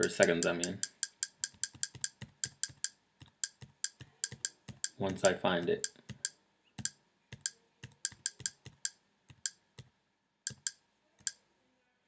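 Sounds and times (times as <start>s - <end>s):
computer input clicks: 0.0s - 9.6s, 10.5s - 11.4s.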